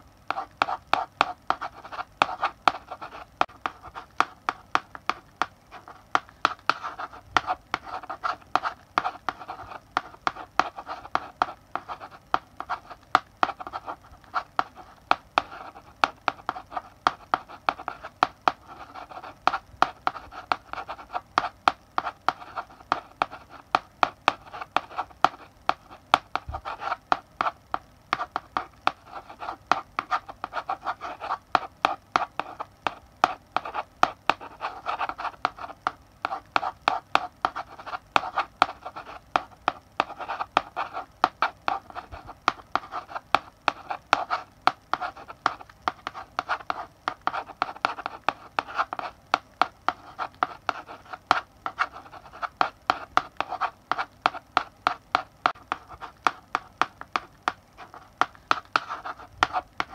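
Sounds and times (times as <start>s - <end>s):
chalk writing on a blackboard: 0.3s - 59.9s.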